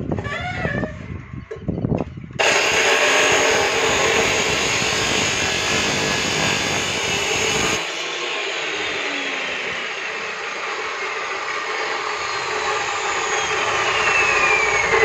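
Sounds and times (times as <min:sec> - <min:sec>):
cut-off saw grinding steel: 0:02.4 - 0:15.0.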